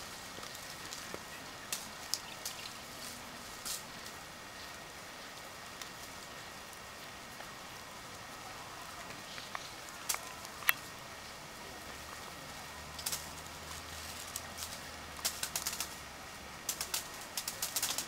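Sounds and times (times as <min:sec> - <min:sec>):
dry leaves crackling: 0:00.0 - 0:18.0.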